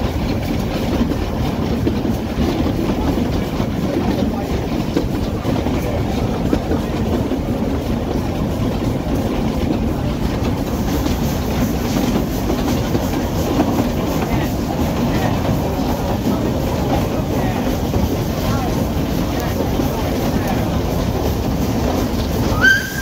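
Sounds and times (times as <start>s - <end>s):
train carriage clattering: 0.0s - 23.0s
train wheels rumbling on rails: 0.0s - 23.0s.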